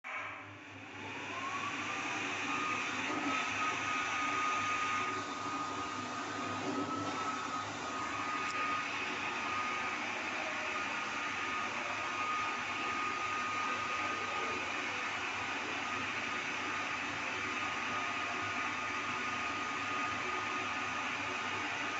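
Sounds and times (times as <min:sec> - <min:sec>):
dryer blower motor whine: 0:00.1 - 0:21.9.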